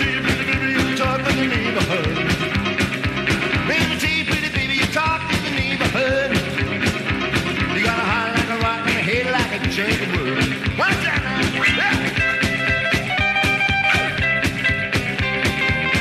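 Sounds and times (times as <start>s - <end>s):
rock and roll music: 0.0s - 16.0s.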